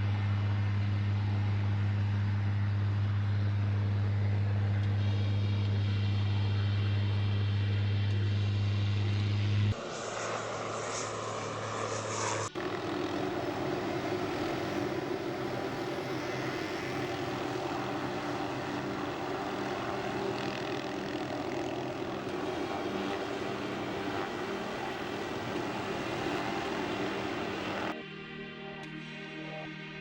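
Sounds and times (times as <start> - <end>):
aircraft engines running: 0.0 - 30.0.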